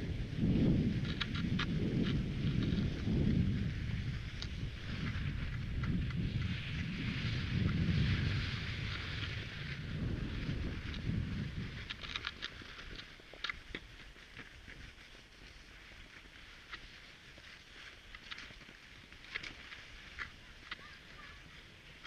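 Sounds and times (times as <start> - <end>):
skis hissing over snow: 0.0 - 22.0.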